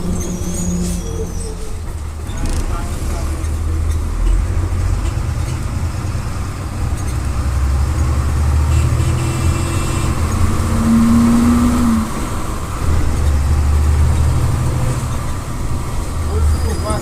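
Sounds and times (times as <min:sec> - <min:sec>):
bus diesel engine pulling under load: 0:00.0 - 0:17.0.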